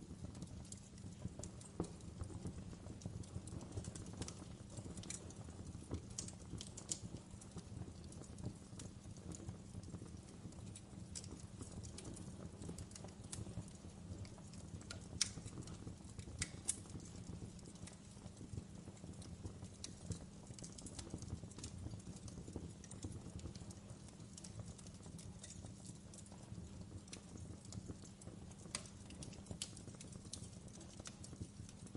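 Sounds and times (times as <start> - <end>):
fire crackling and popping: 0.0 - 31.9
low rumble of flames: 0.0 - 31.9.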